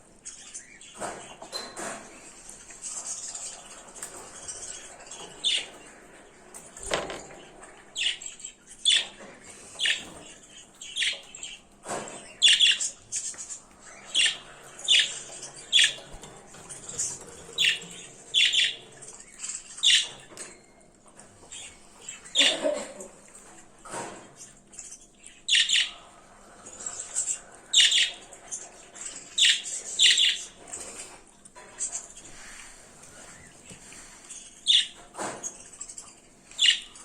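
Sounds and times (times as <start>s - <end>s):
soft high bird chirping: 0.1s - 6.4s, 7.3s - 22.7s, 24.4s - 31.2s, 31.8s - 37.0s.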